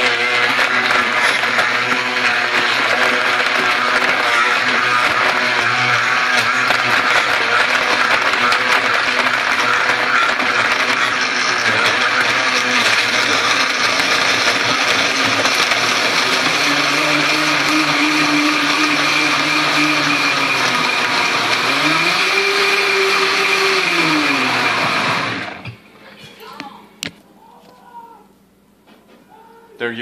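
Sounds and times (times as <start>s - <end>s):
blender running: 0.0s - 25.8s.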